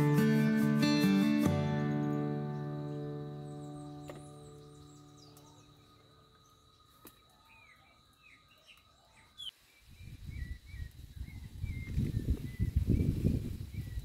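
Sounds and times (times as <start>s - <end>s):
birds chirping: 0.8s - 14.0s.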